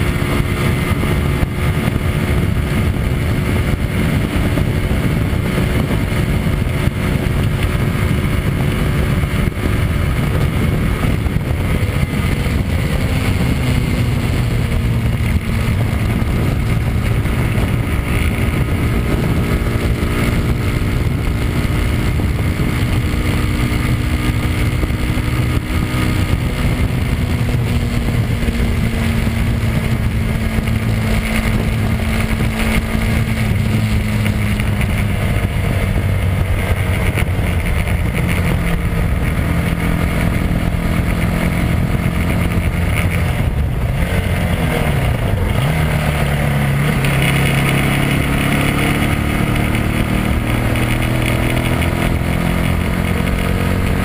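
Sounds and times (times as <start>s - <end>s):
motorcycle engine at high revs: 0.0s - 54.0s
wind noise: 0.0s - 54.0s.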